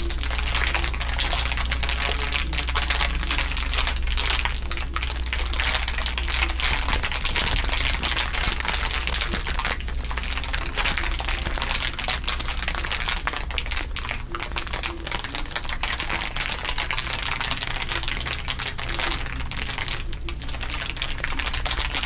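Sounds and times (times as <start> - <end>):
crinkling: 0.0 - 22.0
low steady hum: 0.0 - 22.0.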